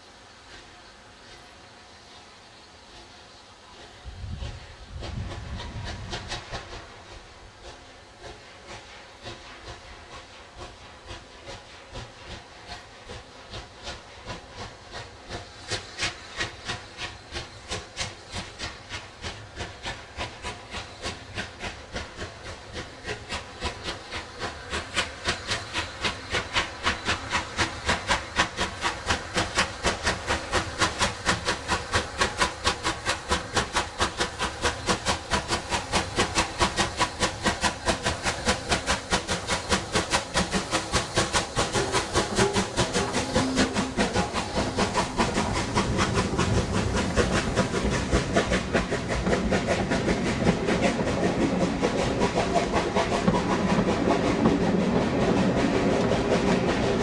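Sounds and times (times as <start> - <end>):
hiss of steam: 0.0 - 57.0
steam locomotive exhaust beats: 0.0 - 57.0.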